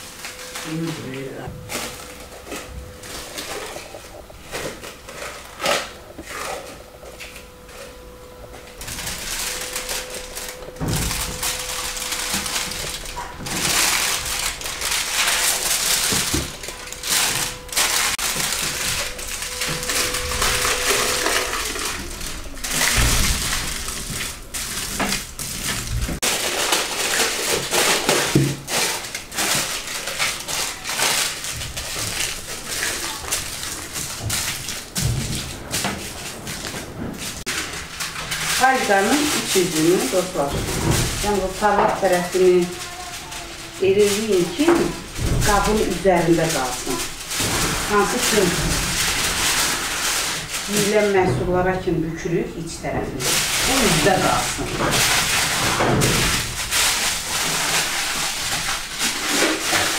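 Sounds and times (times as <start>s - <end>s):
aluminium foil crinkling: 0.0s - 59.9s.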